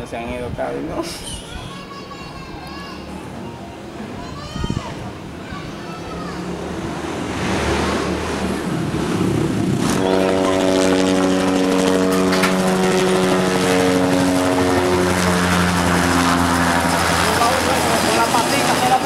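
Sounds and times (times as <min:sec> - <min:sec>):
helicopter flying overhead: 0:01.5 - 0:19.0.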